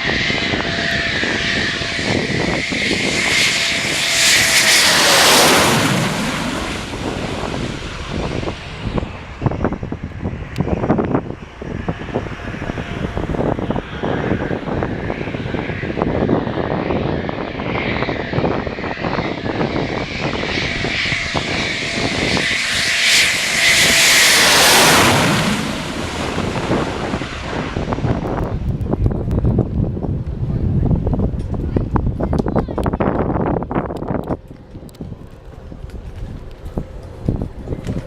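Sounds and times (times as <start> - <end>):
jet passing by: 0.0 - 31.8.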